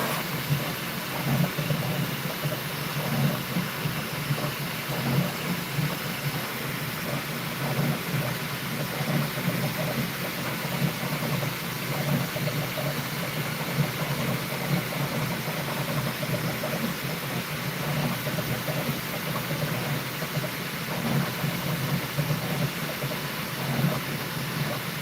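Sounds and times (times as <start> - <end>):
fans whirring: 0.0 - 25.0.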